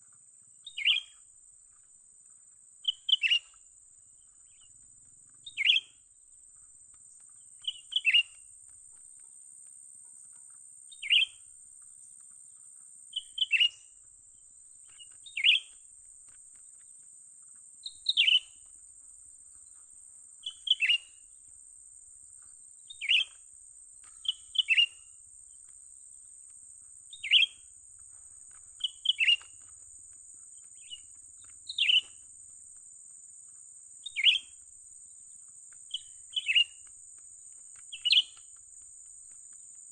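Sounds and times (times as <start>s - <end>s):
bird chirps: 0.6s - 9.3s, 10.0s - 15.9s, 16.7s - 21.3s, 22.3s - 25.8s, 26.7s - 36.9s, 37.5s - 39.9s.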